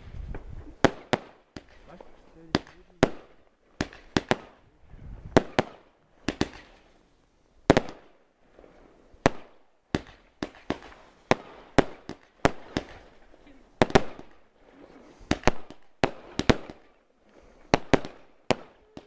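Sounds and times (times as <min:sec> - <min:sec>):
fireworks banging: 0:00.0 - 0:04.7, 0:05.3 - 0:07.0, 0:07.6 - 0:19.0.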